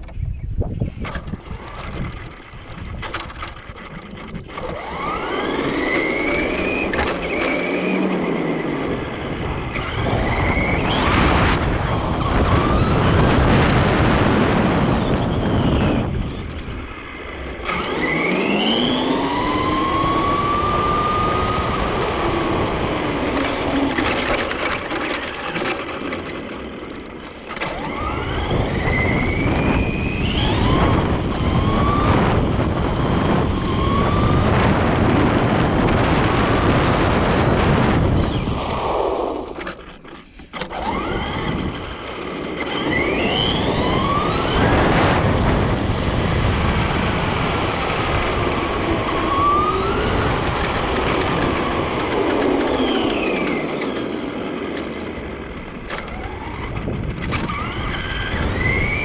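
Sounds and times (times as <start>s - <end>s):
wind: 0.0s - 59.0s
tyres rumbling on road: 1.1s - 59.0s
toy truck motor whine: 3.2s - 59.0s.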